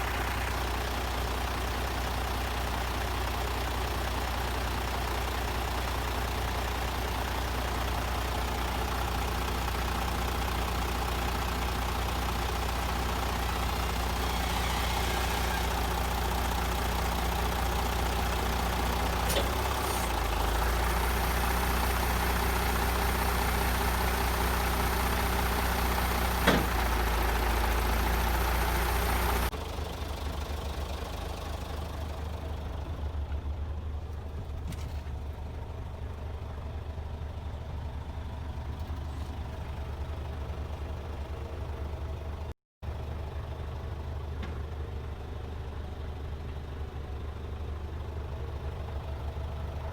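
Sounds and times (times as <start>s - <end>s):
diesel truck engine idling: 0.0s - 49.9s.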